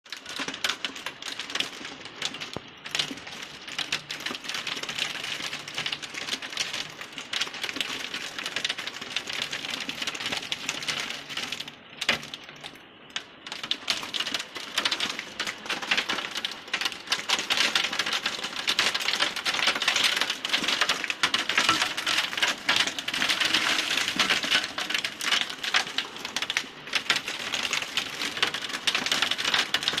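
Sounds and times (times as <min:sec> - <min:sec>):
hailstones clattering: 0:00.1 - 0:30.0.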